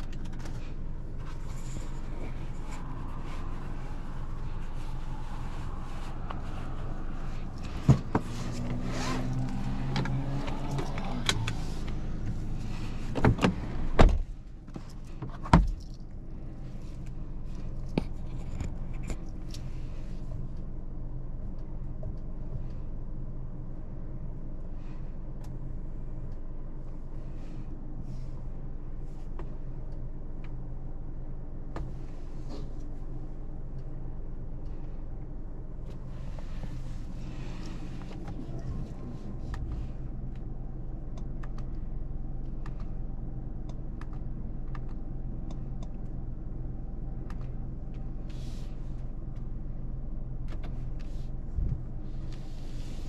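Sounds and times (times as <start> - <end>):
low cabin hum: 0.0 - 53.0.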